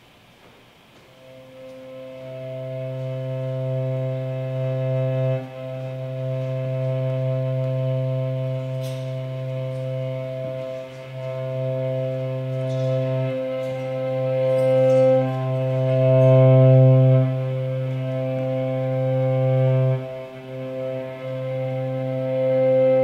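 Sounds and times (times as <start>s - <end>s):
metal violin bowed low notes: 1.1s - 23.0s.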